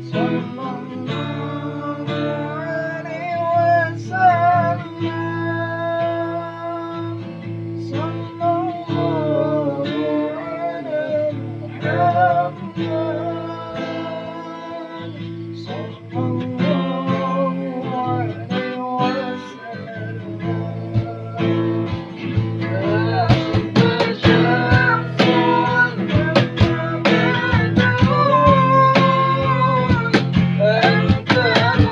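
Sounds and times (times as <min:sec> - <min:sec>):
person singing devotional song: 0:00.0 - 0:07.2, 0:07.9 - 0:31.9
acoustic guitar: 0:00.0 - 0:31.9.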